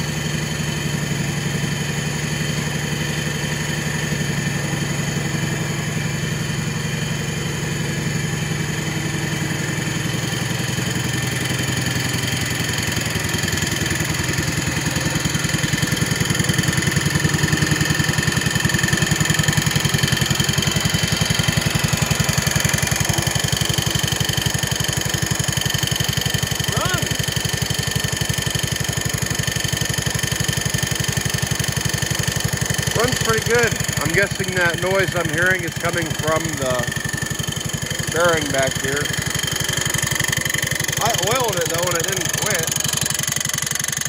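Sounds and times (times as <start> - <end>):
garden tractor engine running: 0.0 - 44.0.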